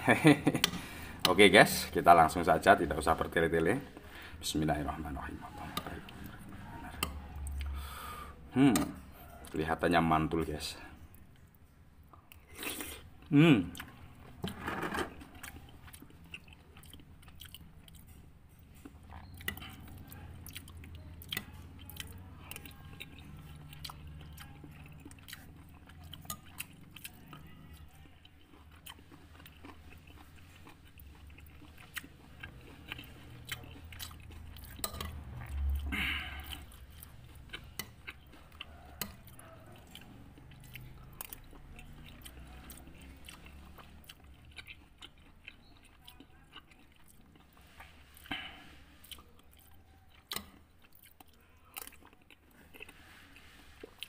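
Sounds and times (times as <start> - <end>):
man chewing food: 0.0 - 9.7, 10.8 - 54.0.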